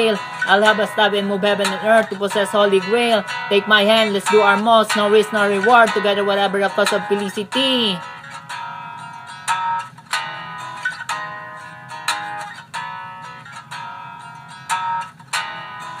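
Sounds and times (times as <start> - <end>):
acoustic guitar plucked notes: 0.0 - 16.0.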